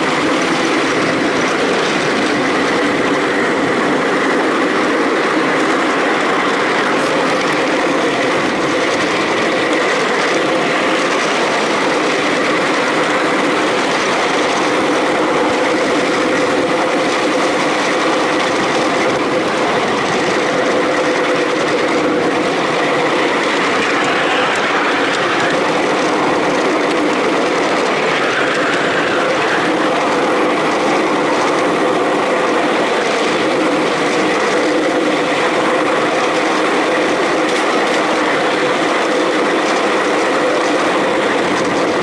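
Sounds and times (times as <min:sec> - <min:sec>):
small train wheels rolling on rails: 0:00.0 - 0:42.0.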